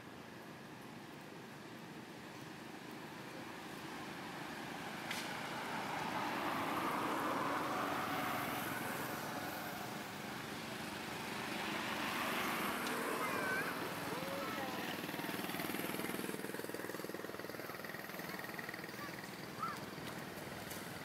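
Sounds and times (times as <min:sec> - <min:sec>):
vehicle engine going by: 0:04.1 - 0:21.0.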